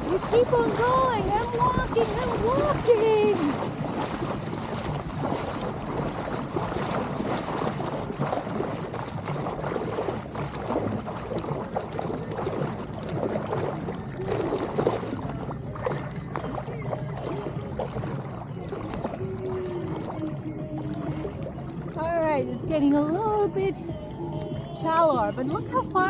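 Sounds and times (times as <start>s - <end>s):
water sloshing from wading: 0.0s - 26.0s.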